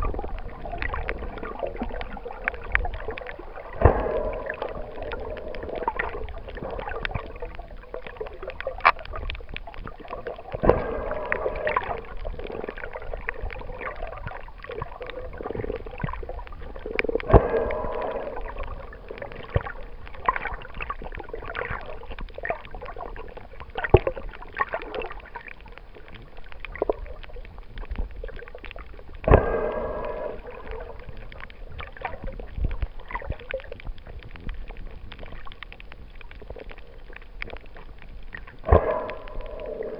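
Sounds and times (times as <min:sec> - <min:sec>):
water gurgling underwater: 0:00.0 - 0:39.9.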